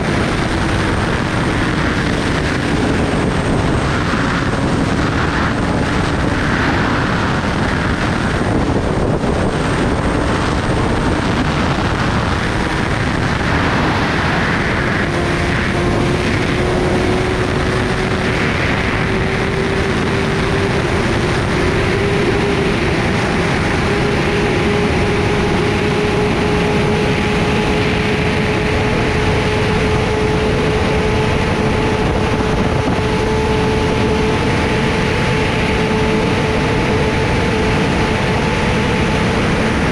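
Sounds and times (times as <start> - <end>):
heavy wind on microphone: 0.0 - 39.9
motorcycle engine: 0.0 - 39.9.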